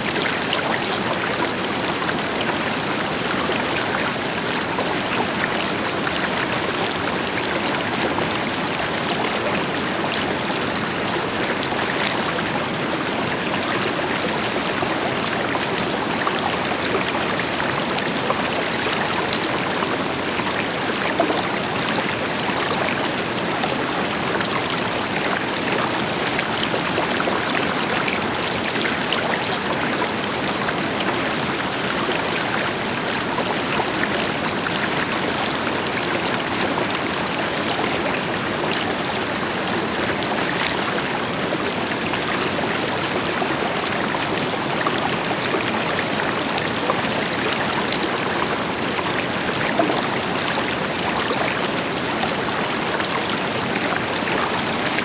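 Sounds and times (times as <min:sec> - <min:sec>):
river water flowing over rocks: 0:00.0 - 0:55.0.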